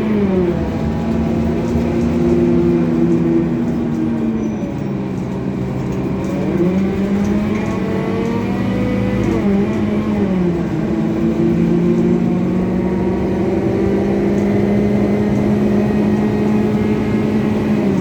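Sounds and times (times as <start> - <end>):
coach diesel engine running: 0.0 - 18.0.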